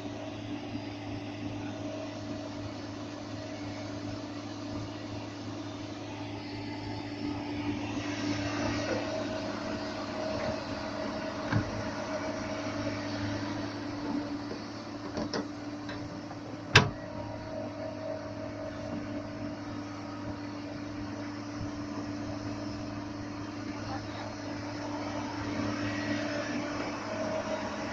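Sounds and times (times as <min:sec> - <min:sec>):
excavator engine running: 0:00.0 - 0:27.9.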